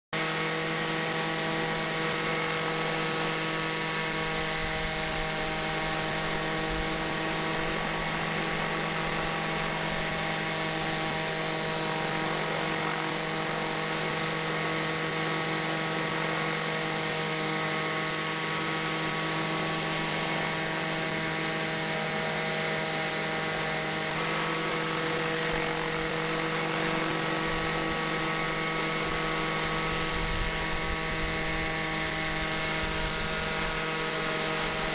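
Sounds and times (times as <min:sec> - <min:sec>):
model helicopter engine running: 0:00.2 - 0:34.9.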